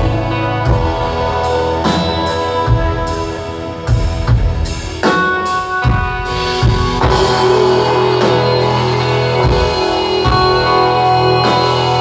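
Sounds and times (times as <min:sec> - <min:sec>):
drum kit: 0:00.0 - 0:12.0
electric guitar chords: 0:00.0 - 0:12.0.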